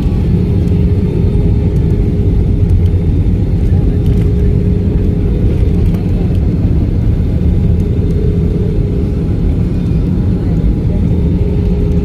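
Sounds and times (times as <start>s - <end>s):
airliner landing rumble: 0.0s - 12.0s.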